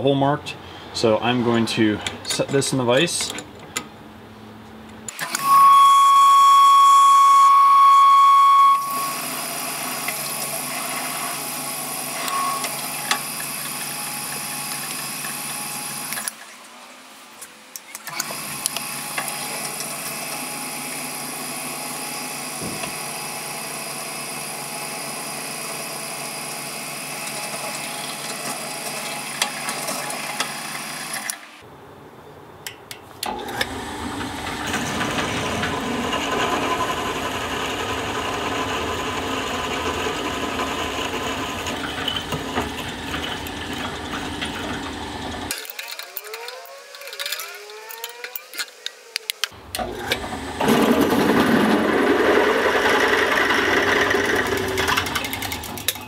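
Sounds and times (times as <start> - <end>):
drill press drilling metal: 5.1 - 16.4, 18.1 - 31.5, 33.2 - 56.0.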